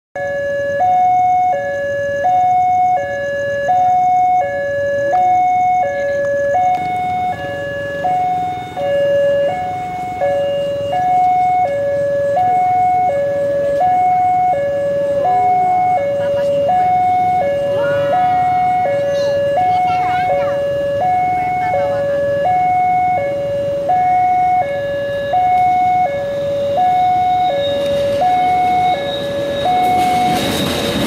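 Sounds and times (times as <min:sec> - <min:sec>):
level crossing two-tone alarm: 0:00.2 - 0:31.0.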